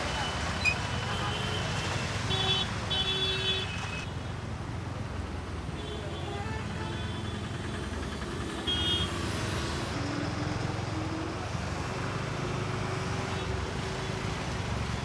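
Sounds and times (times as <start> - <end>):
vehicles driving through flood water: 0.0 - 5.8, 7.2 - 15.0.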